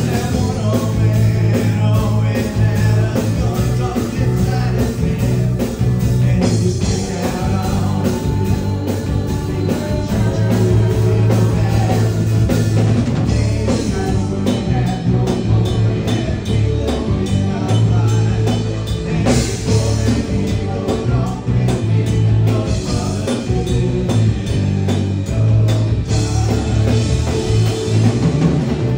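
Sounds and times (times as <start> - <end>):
drum kit beat: 0.0 - 28.9
rock band playing live: 0.0 - 28.9.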